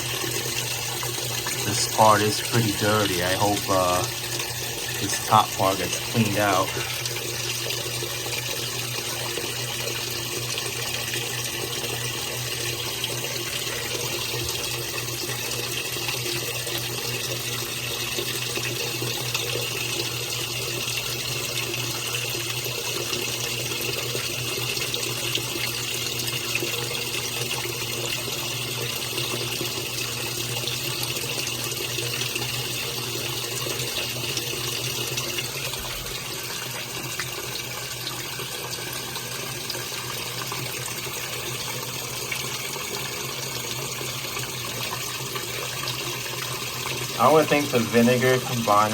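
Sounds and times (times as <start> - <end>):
water pouring into washing machine: 0.0 - 48.9.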